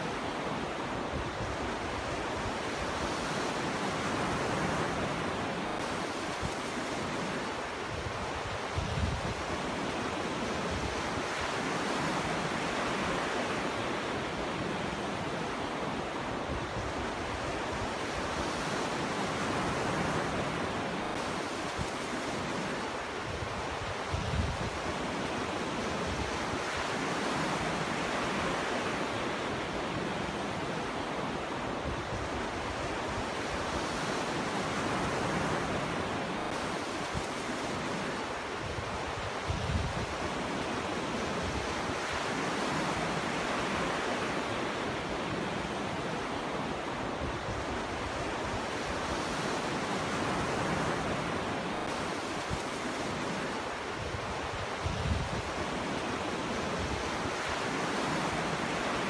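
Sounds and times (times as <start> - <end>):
ocean waves on beach: 0.0 - 59.0
wind on microphone: 0.1 - 59.0.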